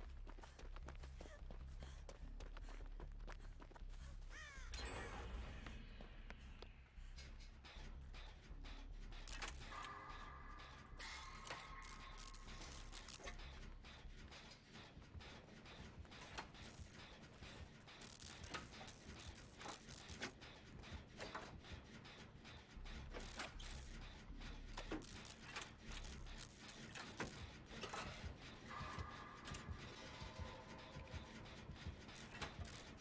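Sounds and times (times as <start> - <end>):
faint clicking and clattering: 5.7 - 33.0.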